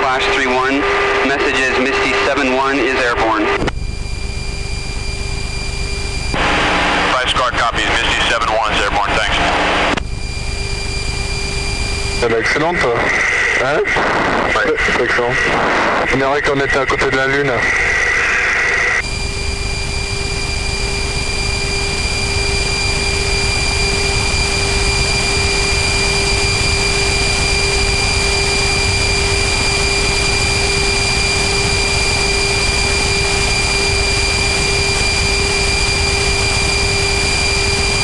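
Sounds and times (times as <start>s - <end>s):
constant low hum: 0.0s - 38.0s
jet engine and airflow noise: 0.0s - 38.0s.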